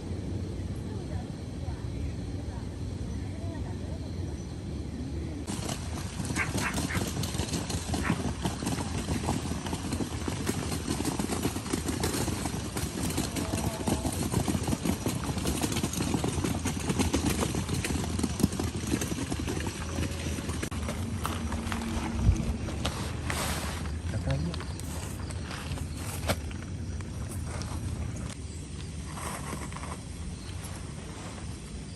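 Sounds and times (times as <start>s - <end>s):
low rumble of wind: 0.0s - 31.9s.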